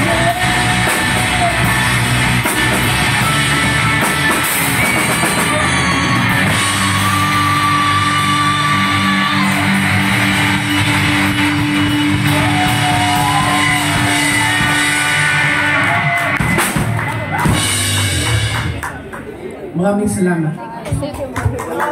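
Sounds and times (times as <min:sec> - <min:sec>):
wavering guitar line: 0:00.0 - 0:19.1
live rock band: 0:00.0 - 0:19.4.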